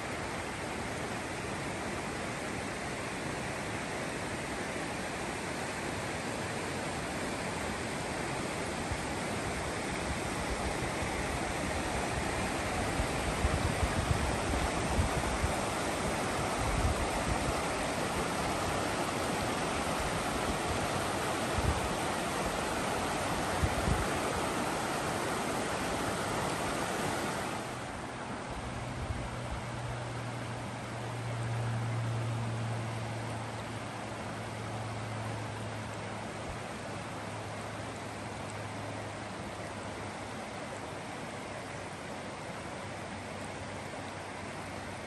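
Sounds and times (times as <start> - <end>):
creek water rushing: 0.0 - 45.0.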